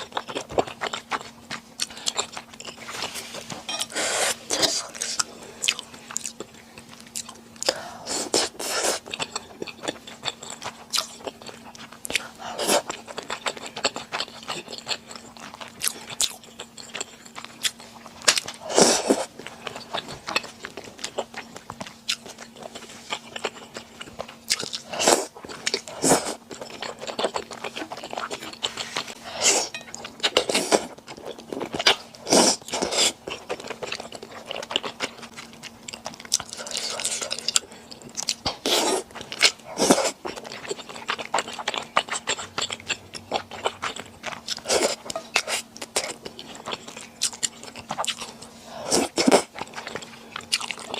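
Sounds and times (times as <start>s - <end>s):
chewing and biting: 0.0s - 50.9s
faint steady hum: 0.0s - 50.9s.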